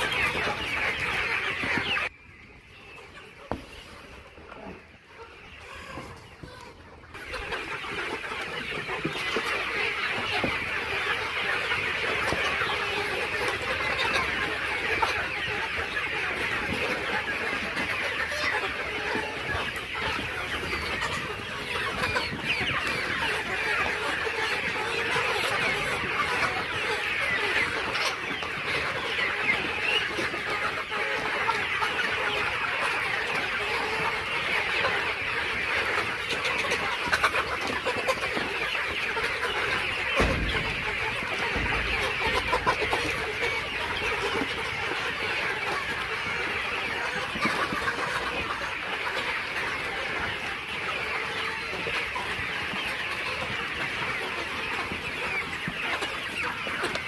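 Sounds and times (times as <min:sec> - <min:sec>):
chickens chirping and clucking: 0:00.0 - 0:57.0.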